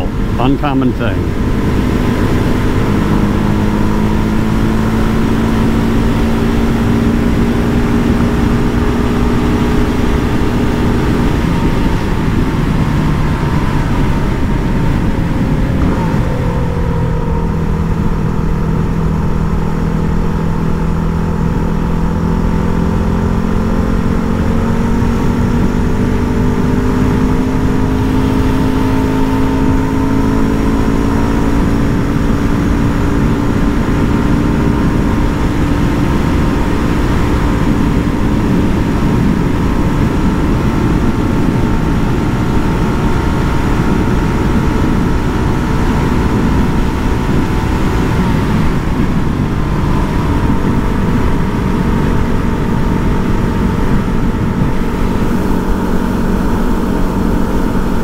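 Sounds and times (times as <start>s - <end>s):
wind rush: 0.0s - 21.9s, 24.0s - 58.0s
motorcycle engine running: 0.0s - 58.0s.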